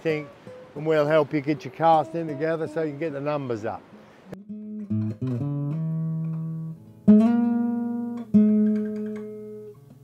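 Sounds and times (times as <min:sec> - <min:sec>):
guitar notes plucked: 0:00.0 - 0:10.0.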